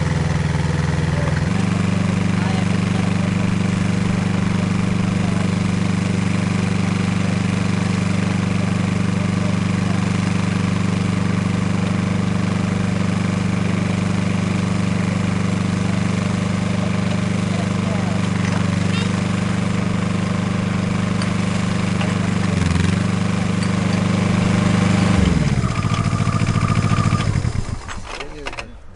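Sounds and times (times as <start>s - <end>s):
drilling rig engine running: 0.0s - 28.9s.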